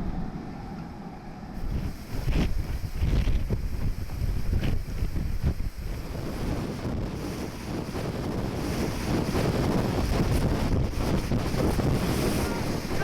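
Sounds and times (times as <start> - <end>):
rough sea surf: 0.0 - 13.0
wind buffeting microphone: 0.0 - 13.0.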